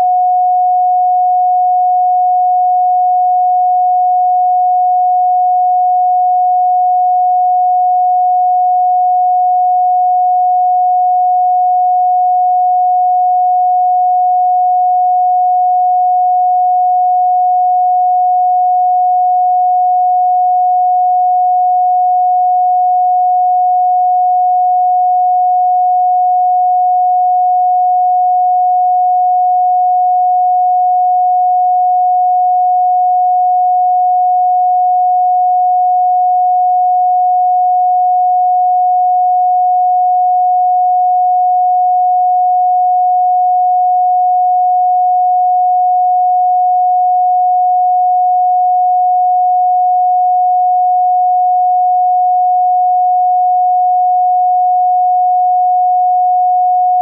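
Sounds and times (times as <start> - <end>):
steady sine tone: 0.0 - 57.0.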